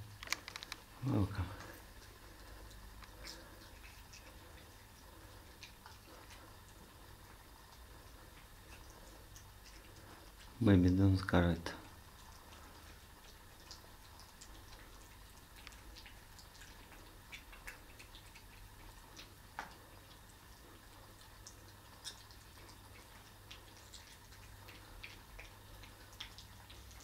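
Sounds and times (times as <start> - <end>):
low steady hum: 0.0 - 27.0
faint small clicks and ticks: 0.1 - 27.0.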